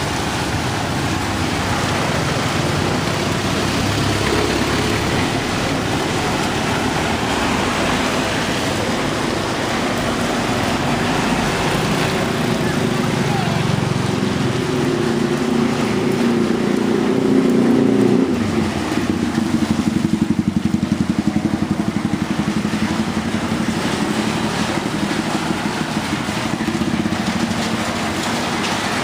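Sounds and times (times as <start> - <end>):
engine drone: 0.0 - 29.0.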